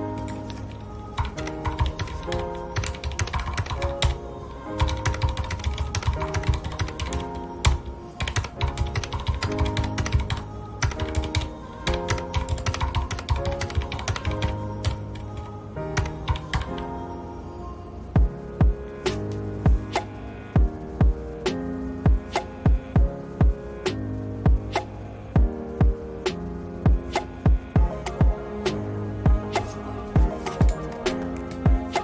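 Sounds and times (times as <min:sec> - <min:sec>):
background music with held chords: 0:00.0 - 0:32.0.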